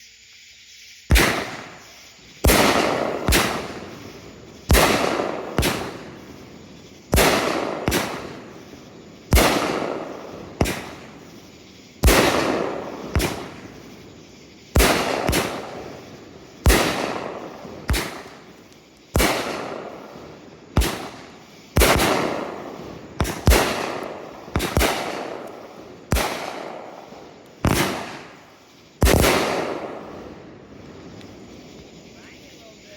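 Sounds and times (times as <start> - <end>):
firework cake bangs: 1.1 - 31.6.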